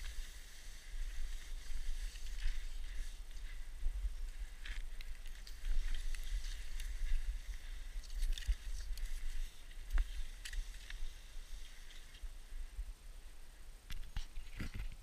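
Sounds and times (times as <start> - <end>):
skis swishing through snow: 0.0 - 12.2.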